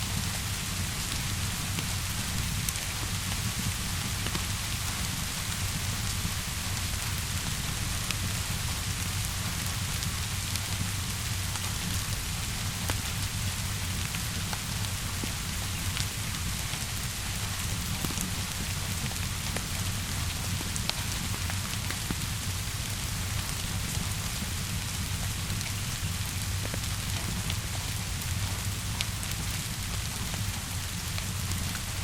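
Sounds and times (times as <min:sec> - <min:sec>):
steady rainfall: 0:00.0 - 0:32.0
wood fire crackling: 0:00.2 - 0:32.0.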